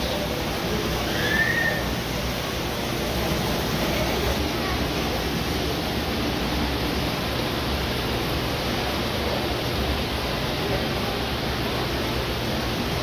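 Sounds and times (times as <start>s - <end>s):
aquarium filters rushing and humming: 0.0s - 13.0s.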